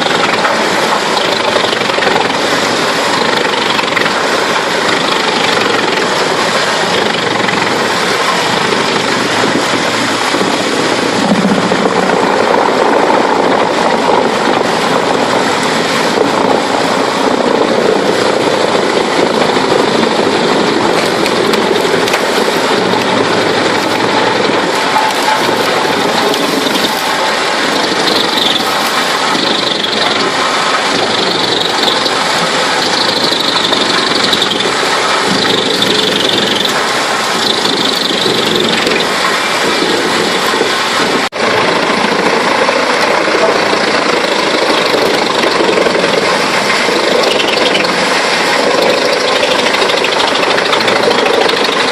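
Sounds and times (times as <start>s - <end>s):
wood chipper running: 0.0s - 51.9s.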